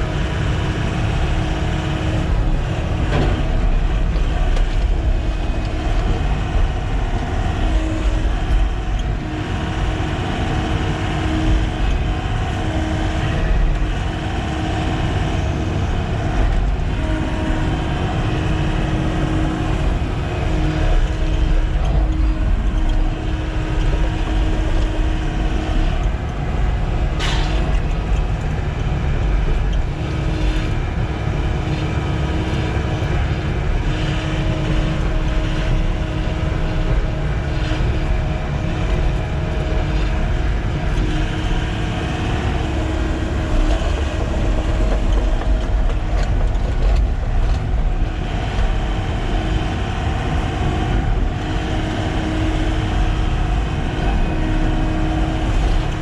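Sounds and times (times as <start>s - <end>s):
excavator diesel engine running: 0.0s - 56.0s
hydraulics hum: 0.0s - 56.0s.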